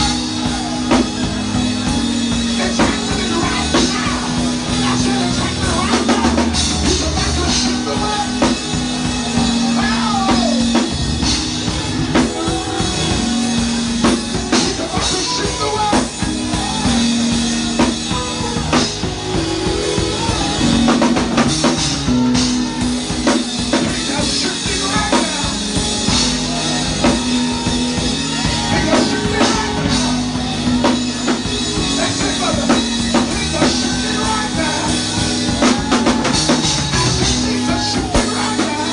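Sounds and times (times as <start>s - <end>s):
drum kit beat: 0.0s - 38.9s
held chords: 0.0s - 38.9s.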